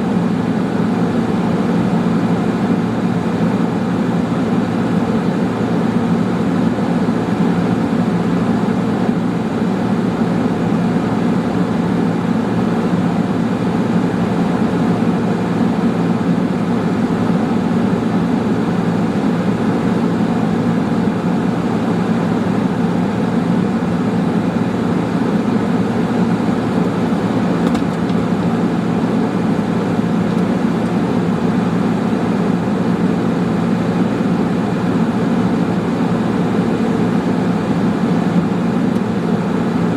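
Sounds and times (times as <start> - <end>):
mechanical hum with low drone: 0.0 - 39.9.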